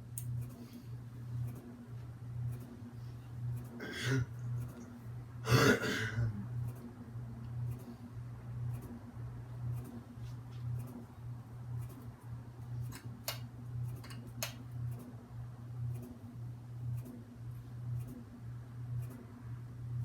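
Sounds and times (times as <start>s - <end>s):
ceiling fan motor hum: 0.0s - 20.0s.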